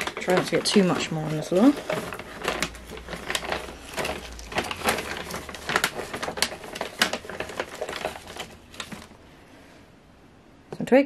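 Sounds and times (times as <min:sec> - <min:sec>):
soil rustling in plastic enclosure: 0:00.0 - 0:09.6.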